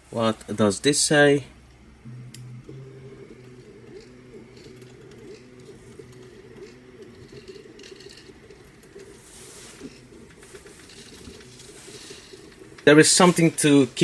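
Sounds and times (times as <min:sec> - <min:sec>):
stepper motors whining: 0:00.2 - 0:14.0.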